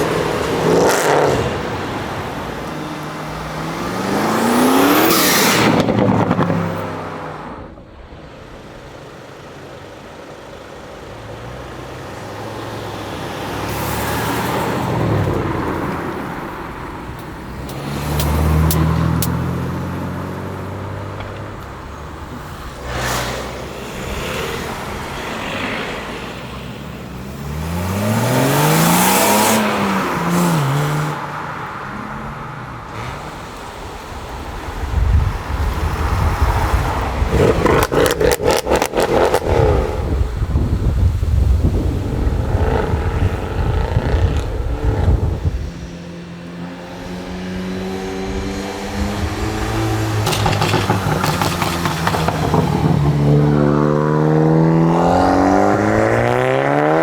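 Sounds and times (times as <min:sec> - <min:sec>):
cars accelerating past: 0:00.0 - 0:07.7, 0:11.0 - 0:57.0.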